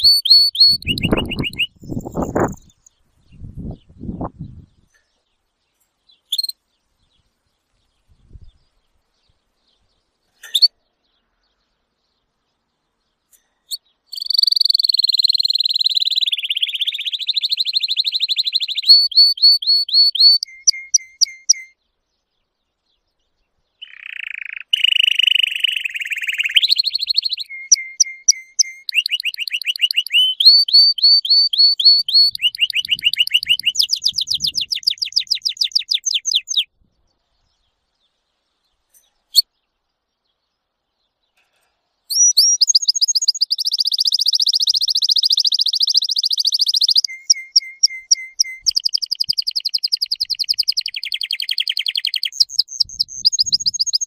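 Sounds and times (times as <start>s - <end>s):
canary singing trills: 0.0s - 7.2s, 8.0s - 12.4s, 13.1s - 41.4s, 42.0s - 54.0s.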